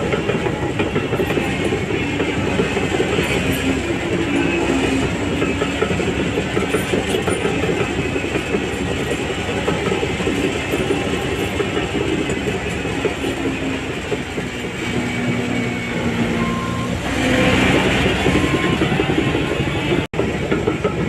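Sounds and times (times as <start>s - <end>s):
bulldozer diesel engine running: 0.0s - 21.0s
steel tracks clattering: 0.0s - 21.0s.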